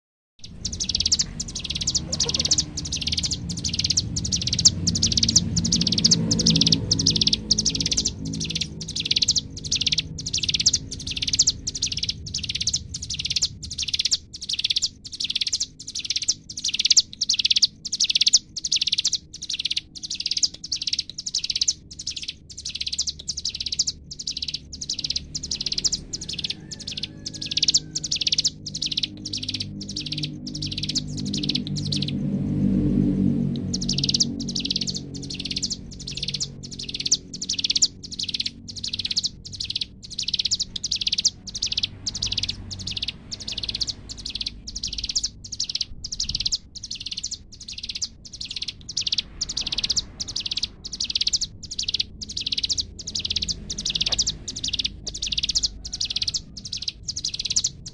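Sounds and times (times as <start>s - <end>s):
bird singing buzzy notes: 0.4s - 57.9s
low steady hum: 0.4s - 57.9s.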